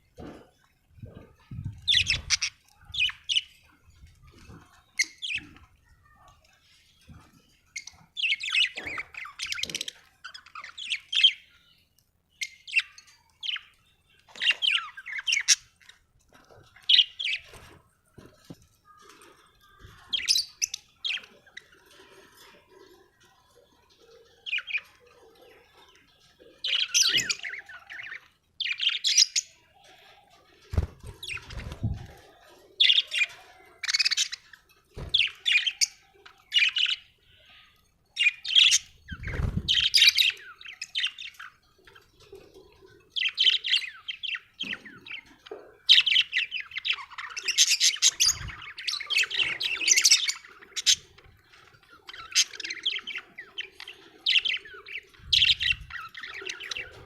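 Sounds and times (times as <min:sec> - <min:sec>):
budgerigars chirping and warbling: 0:00.2 - 0:17.8, 0:18.4 - 0:57.0.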